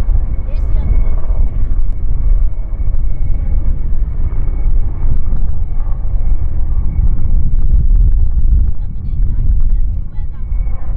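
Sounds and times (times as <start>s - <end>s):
helicopter rotor rumble: 0.0s - 10.9s
high turbine whine: 0.0s - 10.9s.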